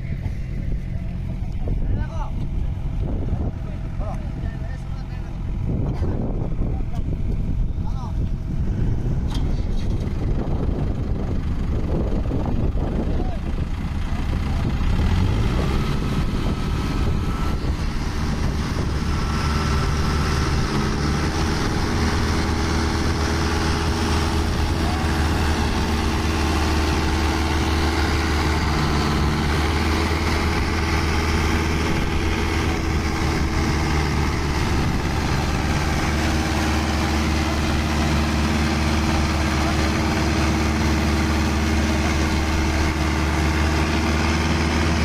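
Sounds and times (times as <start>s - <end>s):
diesel engines under load: 0.0s - 45.0s.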